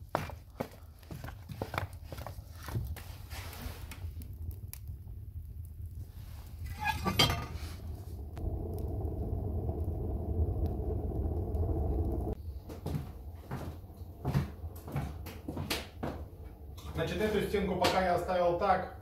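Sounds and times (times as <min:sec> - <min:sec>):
wood fire roaring in a stove: 0:00.0 - 0:19.0.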